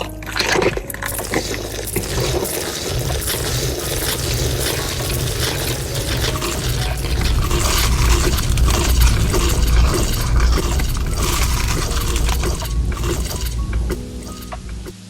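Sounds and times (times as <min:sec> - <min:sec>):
wet chewing and slurping: 0:00.0 - 0:15.0.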